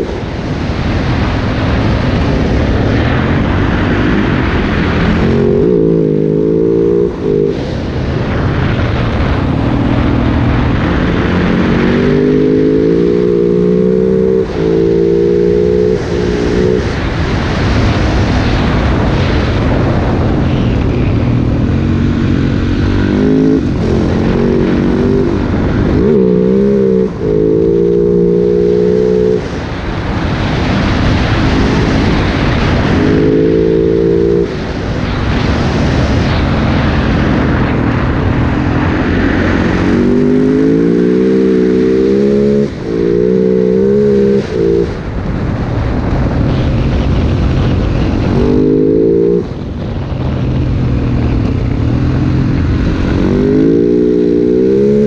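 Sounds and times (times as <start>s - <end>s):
wind noise: 0.0s - 55.0s
dirt bike engine revving: 2.8s - 7.8s, 10.0s - 17.2s, 19.8s - 35.6s, 36.2s - 45.2s, 46.0s - 50.4s, 51.3s - 55.0s.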